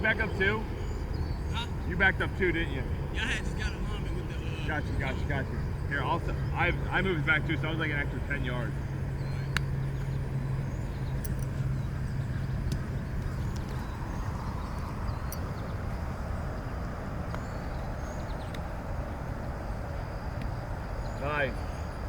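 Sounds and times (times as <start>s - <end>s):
low rumble of wind or traffic: 0.0s - 22.0s
steady low hum: 0.0s - 22.0s.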